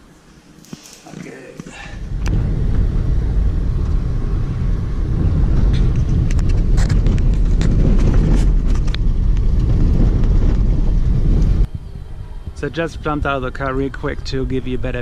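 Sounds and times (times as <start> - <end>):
car driving rumble: 1.7 - 15.0.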